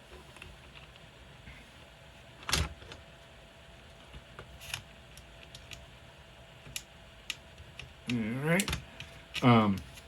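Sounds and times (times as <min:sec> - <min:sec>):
space heater humming: 0:00.0 - 0:10.0.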